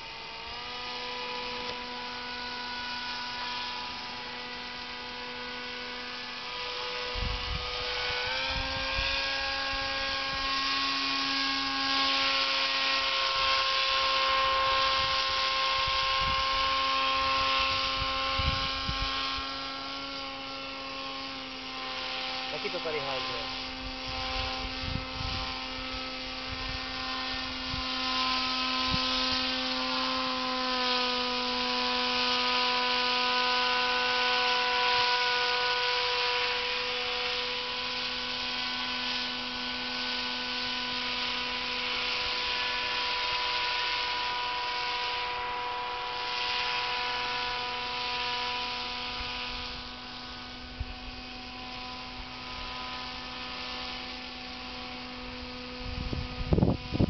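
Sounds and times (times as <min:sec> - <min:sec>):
paraglider motor droning overhead: 0:00.0 - 0:57.0.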